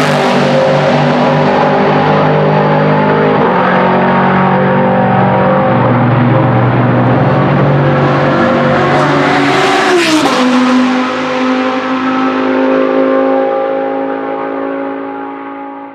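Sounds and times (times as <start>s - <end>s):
race car engine passing: 0.0s - 15.9s.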